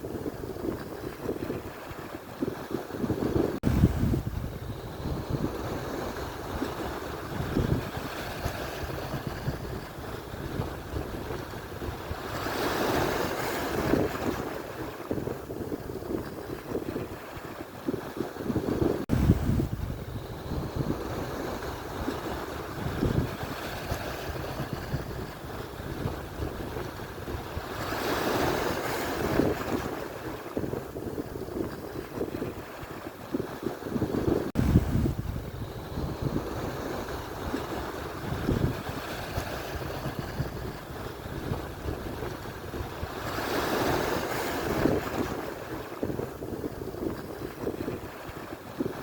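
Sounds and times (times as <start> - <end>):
surf washing onto shore: 0.0 - 49.0
waves breaking: 0.0 - 49.0
wind buffeting microphone: 0.0 - 49.0.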